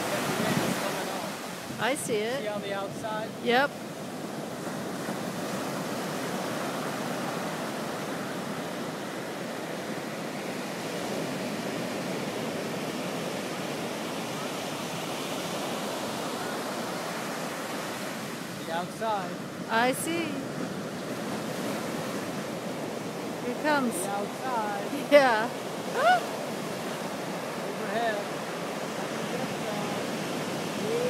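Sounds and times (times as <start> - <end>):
ocean waves breaking on beach: 0.0 - 31.0.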